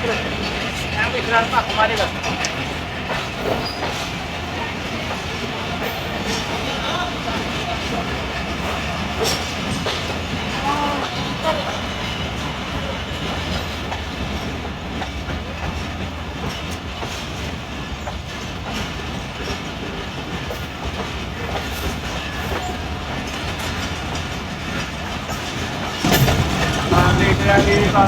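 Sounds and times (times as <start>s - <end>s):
clickety-clack of rail joints: 0.0s - 28.0s
train wheels rumbling on track: 0.0s - 28.0s.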